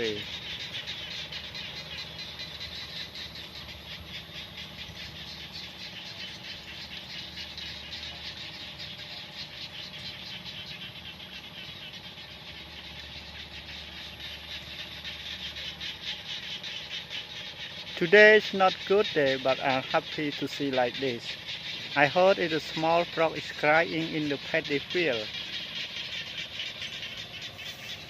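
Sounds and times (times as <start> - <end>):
frogs calling in chorus: 0.0 - 28.0
steady low hum: 0.0 - 28.0.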